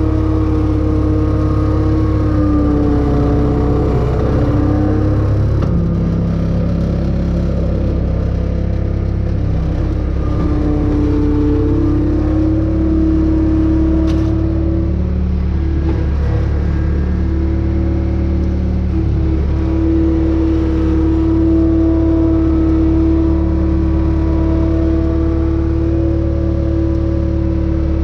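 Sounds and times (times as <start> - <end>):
utility vehicle engine running: 0.0 - 28.0.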